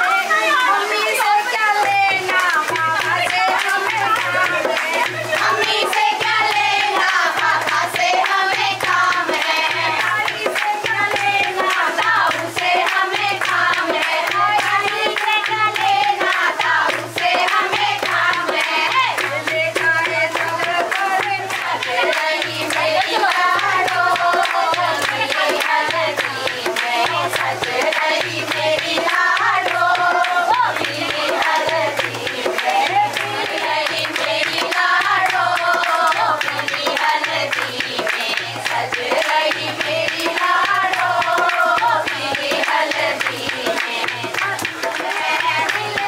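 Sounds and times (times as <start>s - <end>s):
sharp percussive hits: 1.5s - 46.0s
steady beat: 1.8s - 46.0s.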